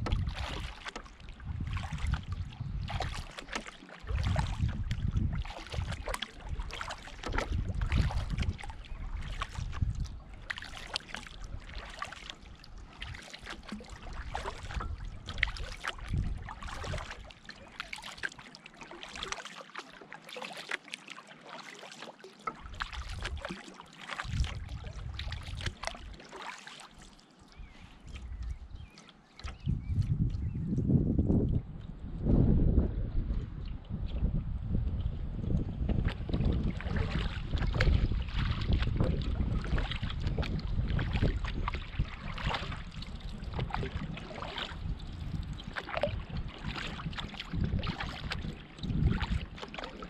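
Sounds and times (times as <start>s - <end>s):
wind rumble on microphone: 0.0s - 17.3s, 22.7s - 23.6s, 24.2s - 26.1s, 27.5s - 50.0s
canoe paddle splashing: 0.0s - 30.6s, 33.4s - 50.0s
water dripping from paddle: 0.0s - 31.6s, 34.8s - 50.0s.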